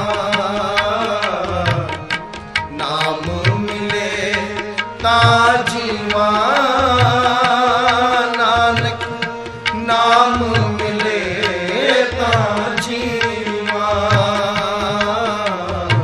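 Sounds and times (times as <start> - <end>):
tabla beat: 0.0 - 16.0.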